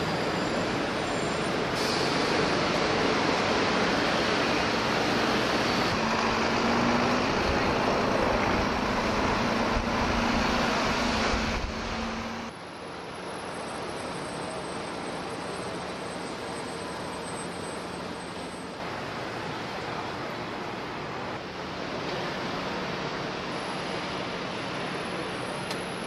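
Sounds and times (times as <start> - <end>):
city road traffic: 0.0 - 26.0.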